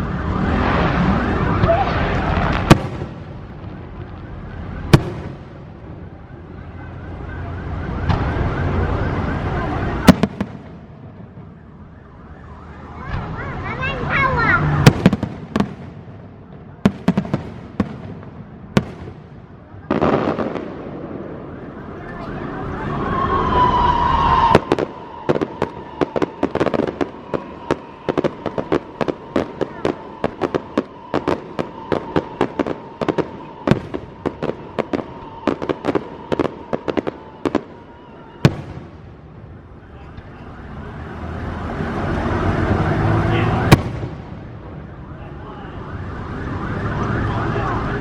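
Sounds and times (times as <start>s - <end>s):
fireworks bangs: 0.0s - 45.4s.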